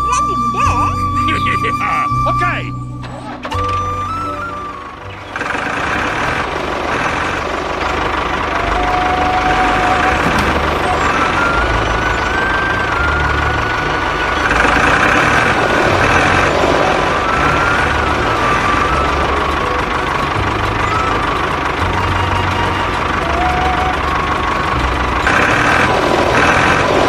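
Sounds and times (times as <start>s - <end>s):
small engine running: 3.2s - 27.0s.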